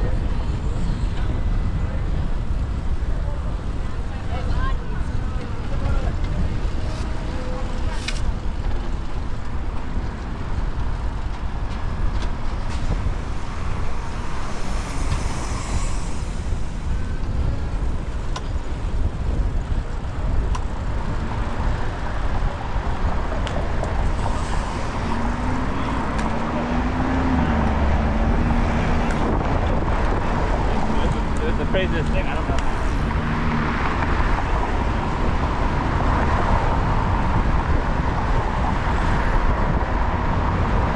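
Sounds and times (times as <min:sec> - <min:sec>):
road vehicles passing: 0:00.0 - 0:40.9
wind noise on microphone: 0:00.0 - 0:40.9.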